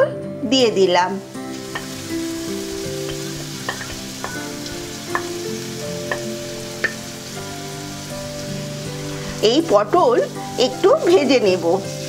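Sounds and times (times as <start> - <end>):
vegetable sizzling in hot oil: 1.2 - 12.0.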